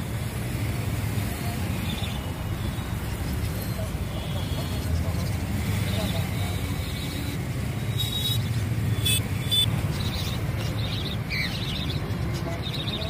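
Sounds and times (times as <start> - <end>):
small birds chirping: 1.2 - 13.0.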